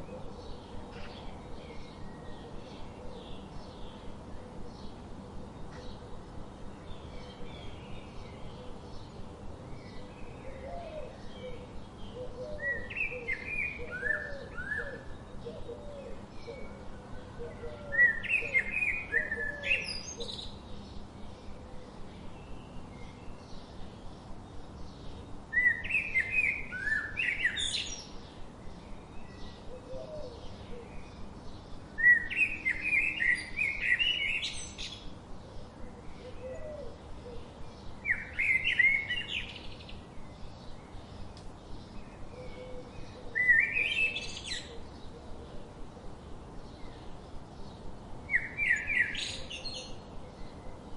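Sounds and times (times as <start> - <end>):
steady background hiss: 0.0 - 50.9.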